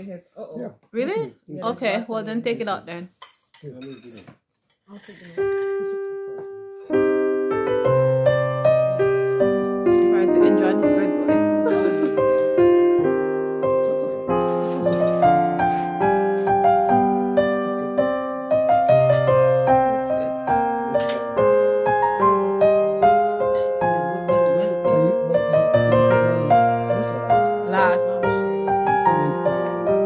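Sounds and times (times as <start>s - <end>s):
piano music: 5.3s - 30.0s.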